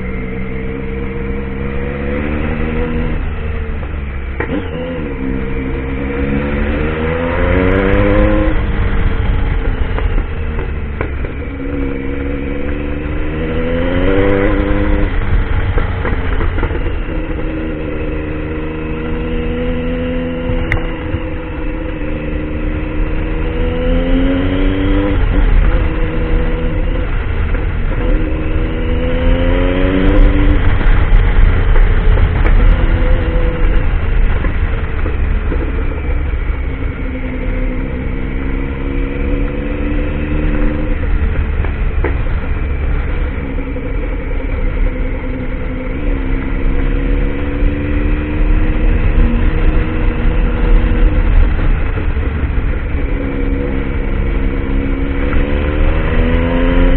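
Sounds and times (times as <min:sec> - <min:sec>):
constant low rumble: 0:00.0 - 0:56.9
motorcycle engine accelerating: 0:00.0 - 0:56.9.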